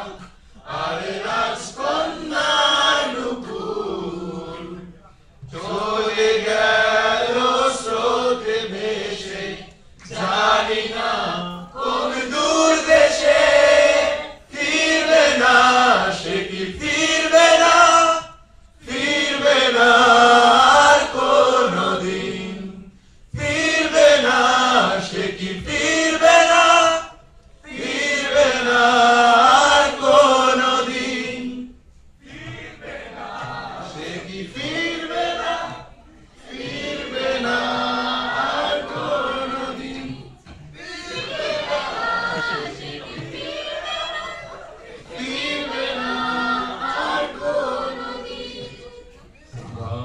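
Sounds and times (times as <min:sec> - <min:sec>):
choir singing: 0:00.0 - 0:50.0.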